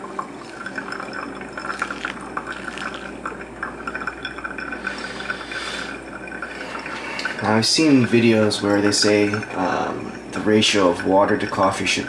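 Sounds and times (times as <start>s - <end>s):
water trickling onto coffee grounds: 0.0s - 12.0s.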